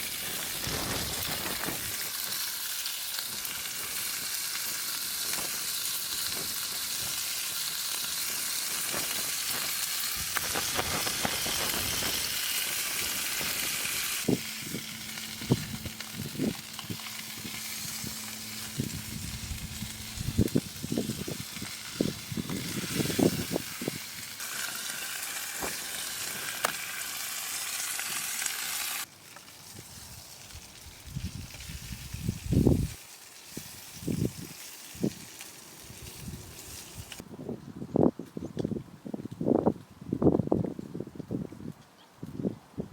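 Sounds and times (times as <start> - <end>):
food sizzling in a frying pan: 0.0 - 37.2.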